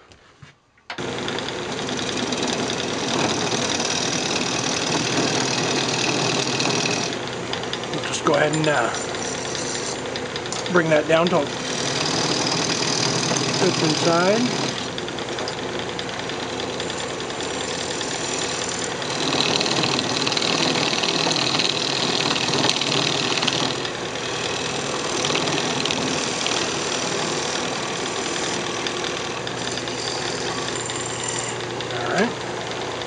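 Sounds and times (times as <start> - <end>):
turning tool scraping wood: 1.0 - 31.9
wood lathe humming: 1.0 - 33.0.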